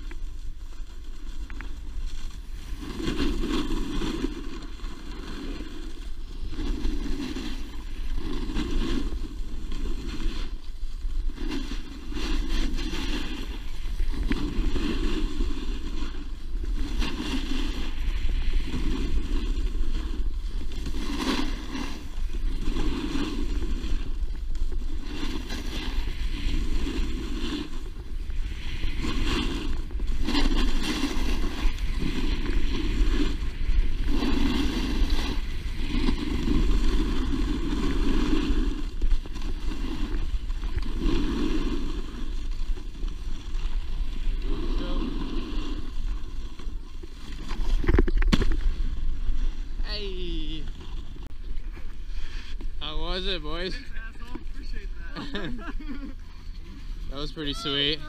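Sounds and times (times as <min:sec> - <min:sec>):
snowboard scraping over snow: 0:00.0 - 0:58.0
wind rumble on microphone: 0:00.0 - 0:58.0.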